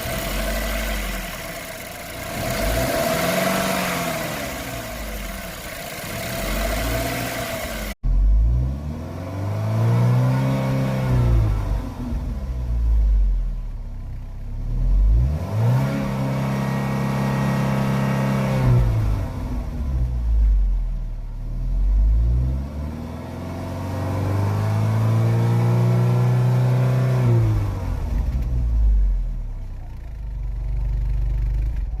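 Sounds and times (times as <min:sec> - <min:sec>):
car engine revving: 0:00.0 - 0:13.1, 0:14.5 - 0:20.4, 0:21.4 - 0:29.3.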